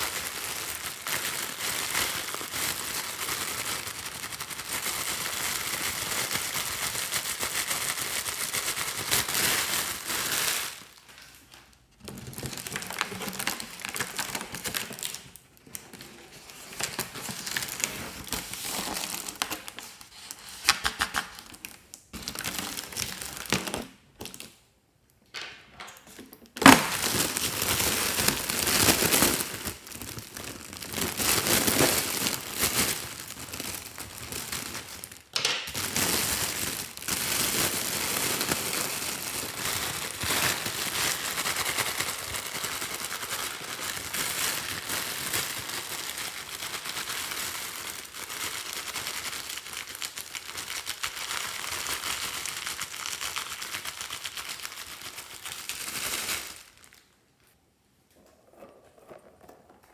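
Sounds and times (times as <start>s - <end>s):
metallic foil crinkling: 0.0s - 24.5s, 26.6s - 57.2s.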